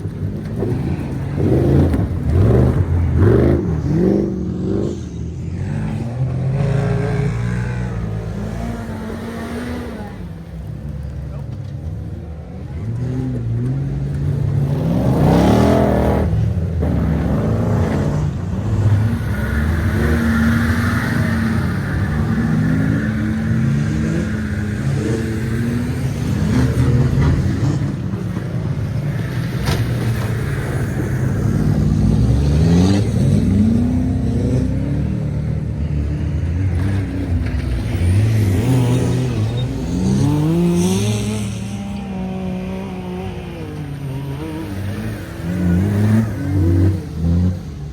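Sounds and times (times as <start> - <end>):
truck engines revving: 0.0 - 47.9.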